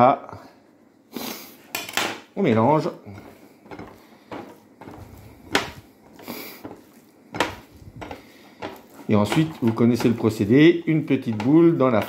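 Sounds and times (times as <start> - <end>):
hand mixing minced meat: 2.3 - 12.0.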